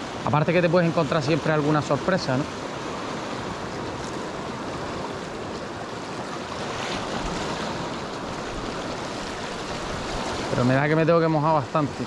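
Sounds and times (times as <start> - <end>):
small waves breaking on rocks: 0.0 - 12.0.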